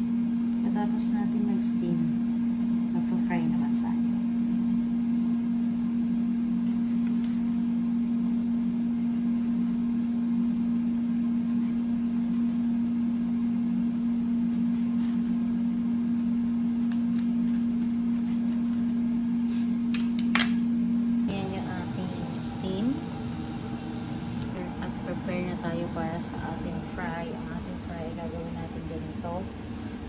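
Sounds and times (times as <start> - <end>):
kitchen appliance humming: 0.0 - 30.0.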